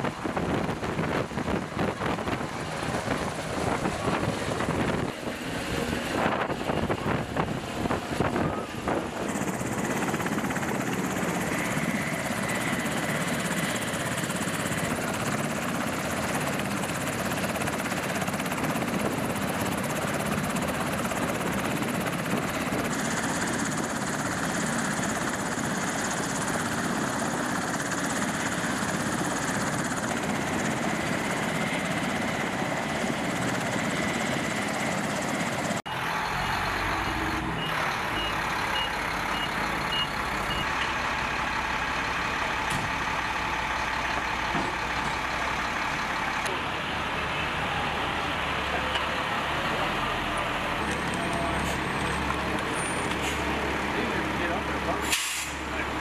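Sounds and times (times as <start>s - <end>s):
helicopter rotor and turbine: 0.0s - 56.0s
truck engine running: 0.0s - 56.0s.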